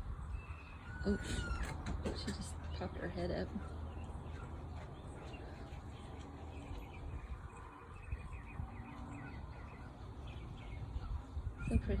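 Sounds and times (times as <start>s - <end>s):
wind rumble on microphone: 0.0s - 3.6s, 5.8s - 12.0s.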